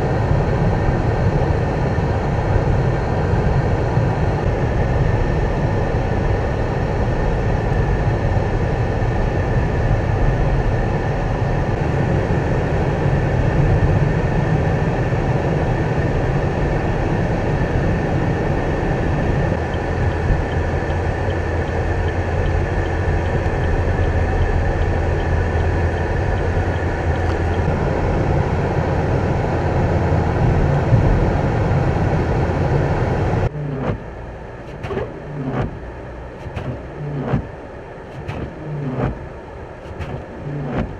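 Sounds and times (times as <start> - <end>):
faint steady whine: 0.0 - 40.9
vehicle road rumble: 0.0 - 40.9.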